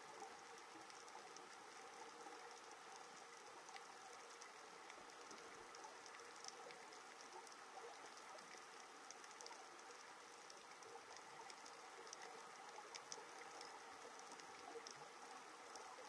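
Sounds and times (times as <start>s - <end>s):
snapping shrimp crackle underwater: 0.0s - 16.0s.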